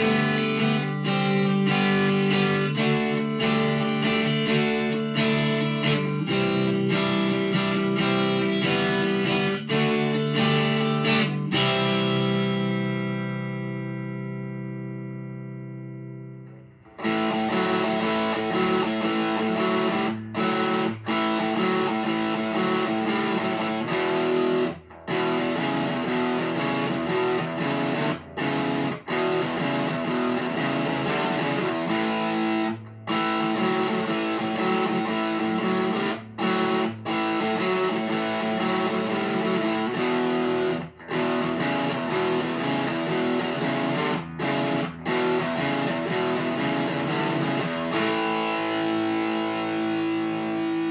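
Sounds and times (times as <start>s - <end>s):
electric guitar chords: 0.0s - 50.9s.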